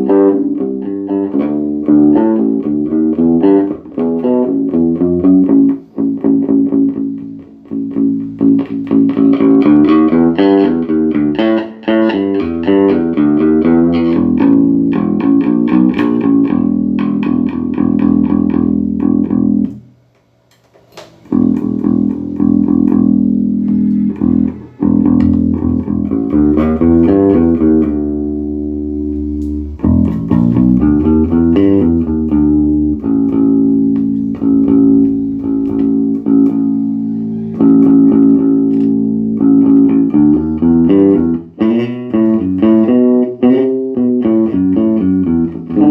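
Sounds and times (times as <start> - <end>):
electric bass guitar riffs: 0.0 - 19.9, 21.2 - 45.9.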